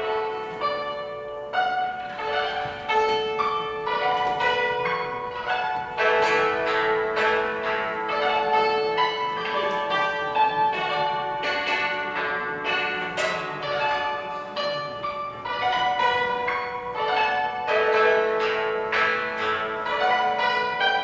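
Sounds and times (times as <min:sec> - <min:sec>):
hammered dulcimer melody: 0:00.0 - 0:21.0.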